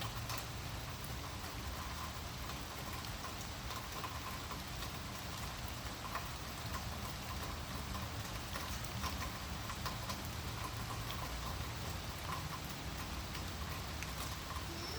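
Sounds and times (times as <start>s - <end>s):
raindrops ticking on surfaces: 0.0s - 14.9s
steady rain falling: 0.0s - 14.9s.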